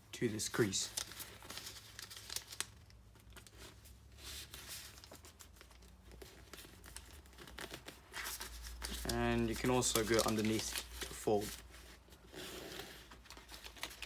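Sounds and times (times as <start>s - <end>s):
paper rustling and crinkling: 0.5s - 14.0s.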